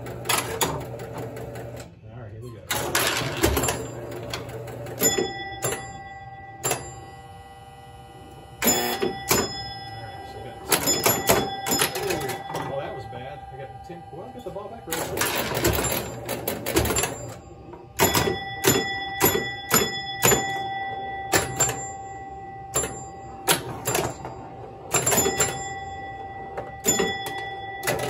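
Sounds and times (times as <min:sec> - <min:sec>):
pinball machine rattle: 0:00.0 - 0:01.8, 0:02.7 - 0:07.1, 0:08.6 - 0:13.5, 0:14.8 - 0:28.0
pinball coils and flippers clacking: 0:00.0 - 0:01.9, 0:02.7 - 0:07.0, 0:08.6 - 0:13.0, 0:14.8 - 0:28.0
ringing bell chimes: 0:04.9 - 0:28.0.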